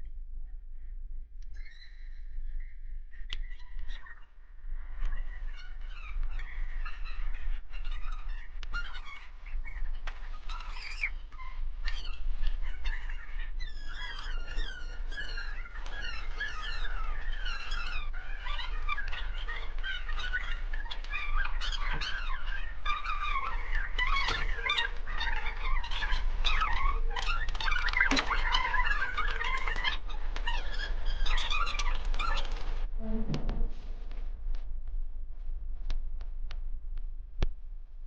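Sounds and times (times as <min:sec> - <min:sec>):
many birds chirping: 0:01.6 - 0:32.8.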